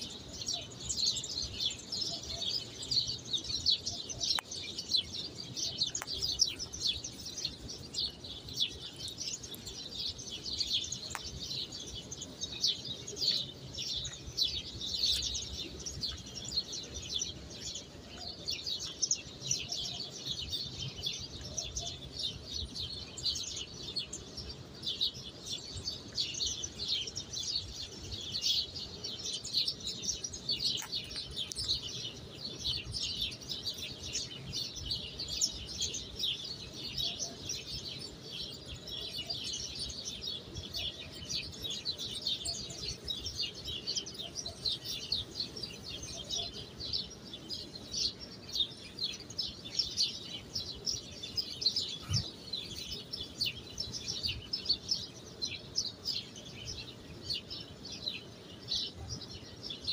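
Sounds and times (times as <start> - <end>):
chorus of small birds chirping: 0.0 - 59.9.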